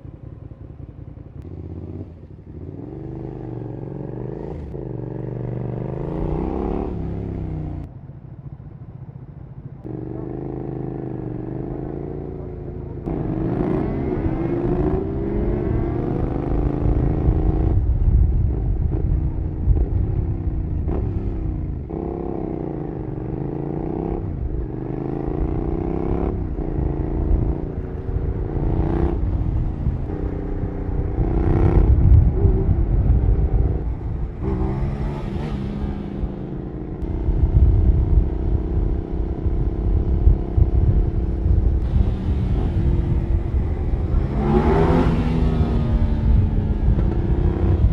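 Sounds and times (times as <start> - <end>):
low wind rumble: 0.0 - 47.9
motorcycle engine accelerating: 0.0 - 47.9.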